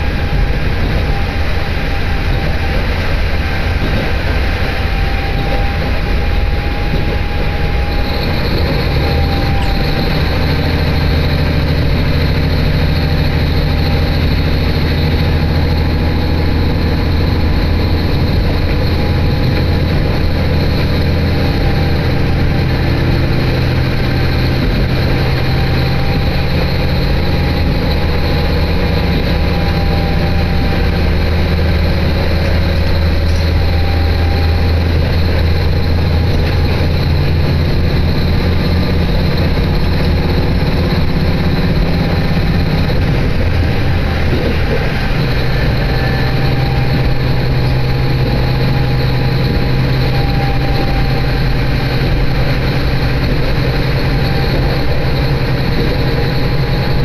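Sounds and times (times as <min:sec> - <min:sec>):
diesel railcar engine hum: 0:00.0 - 0:57.0
train rumbling on rails: 0:00.0 - 0:57.0.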